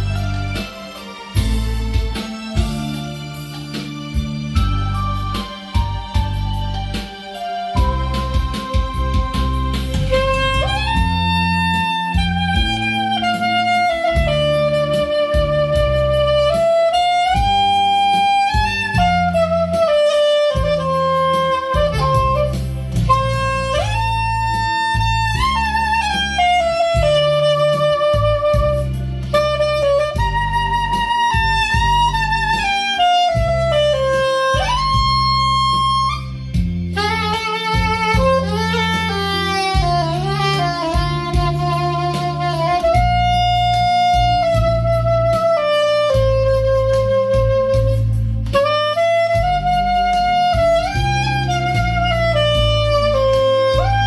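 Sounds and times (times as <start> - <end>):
backing accompaniment: 0.0 - 54.0
soprano saxophone melody: 0.0 - 54.0.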